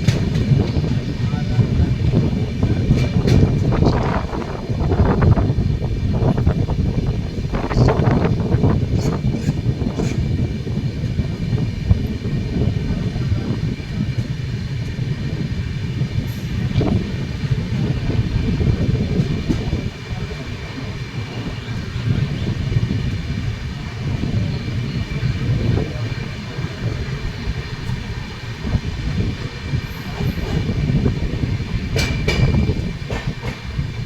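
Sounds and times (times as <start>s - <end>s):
train wheels clicking: 0.0s - 5.2s, 7.6s - 34.0s
train coaches rumbling on rails: 0.0s - 34.0s.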